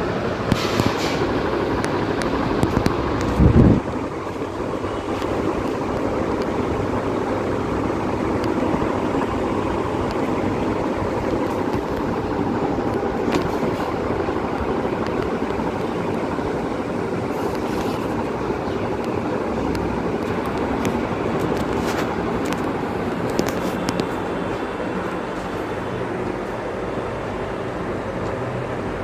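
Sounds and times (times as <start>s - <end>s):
electric fan running: 0.0s - 29.0s.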